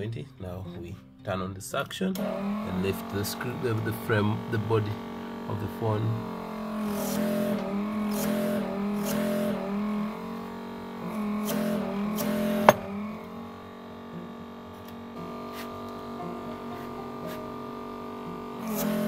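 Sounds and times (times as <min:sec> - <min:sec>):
pulsing suction pump hum: 0:02.2 - 0:19.0.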